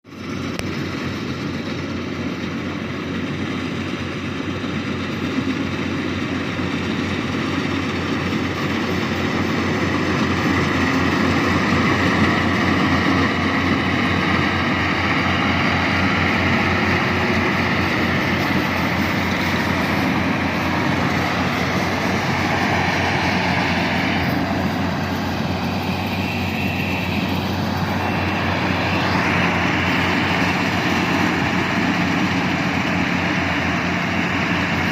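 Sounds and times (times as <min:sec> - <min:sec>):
combine harvester droning: 0:00.1 - 0:34.9
high machine whine: 0:00.1 - 0:34.9.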